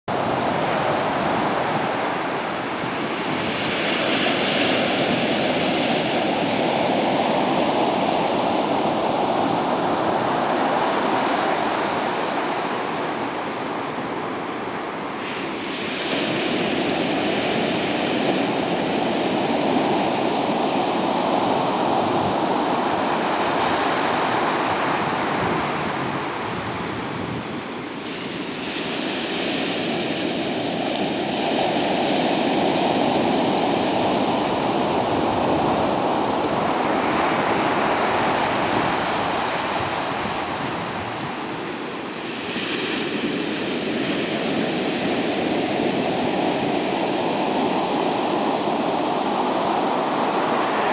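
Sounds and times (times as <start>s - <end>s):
waves breaking on sandy beach: 0.1s - 50.9s.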